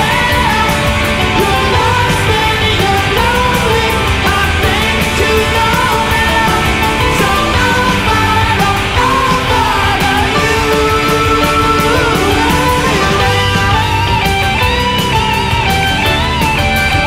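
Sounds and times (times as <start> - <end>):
rock music with singer and drums: 0.0 - 17.0.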